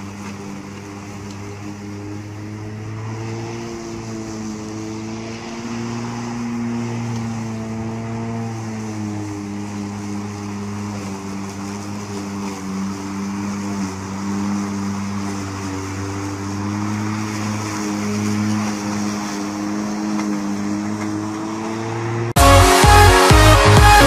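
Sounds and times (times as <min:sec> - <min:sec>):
electric lawn mower hum: 0:00.0 - 0:24.0
hiss of cut grass: 0:00.0 - 0:24.0.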